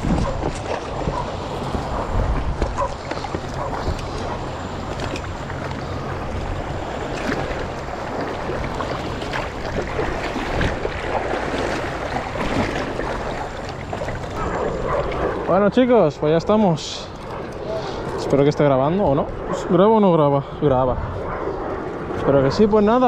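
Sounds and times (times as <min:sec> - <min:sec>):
water splashing and churning: 0:00.0 - 0:23.0.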